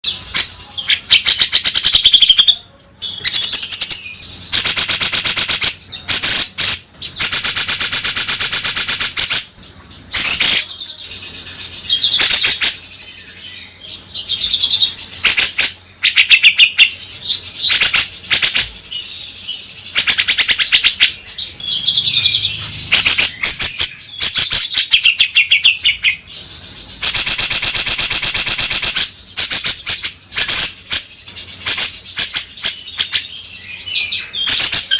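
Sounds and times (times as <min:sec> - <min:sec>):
bird harsh chattering: 0:00.1 - 0:09.5, 0:10.1 - 0:13.0, 0:14.1 - 0:34.9.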